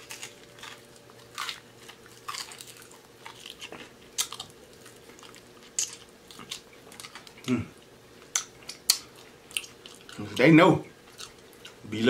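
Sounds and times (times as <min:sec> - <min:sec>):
chewing crunchy fried food: 0:00.0 - 0:12.0.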